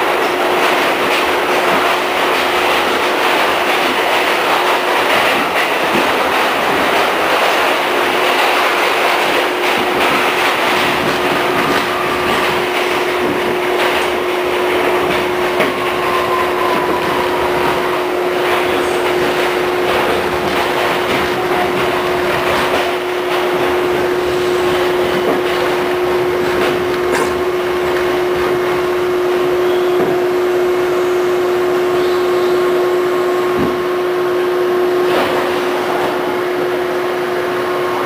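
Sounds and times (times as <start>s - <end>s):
subway car slowing to a stop: 0.0s - 38.0s.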